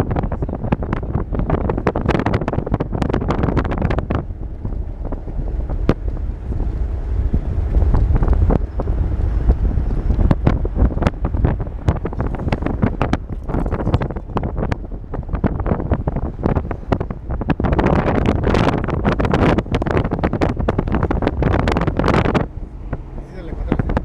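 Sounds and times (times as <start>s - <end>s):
low road rumble: 0.0s - 24.0s
wind buffeting microphone: 0.0s - 24.0s.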